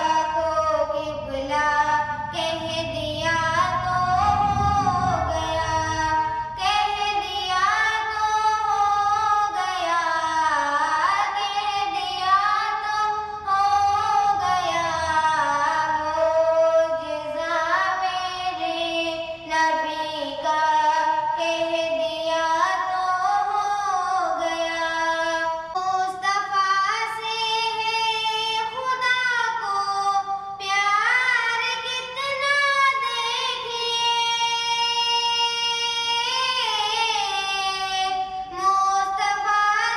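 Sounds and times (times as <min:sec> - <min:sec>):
girl singing into microphone: 0:00.0 - 0:39.9.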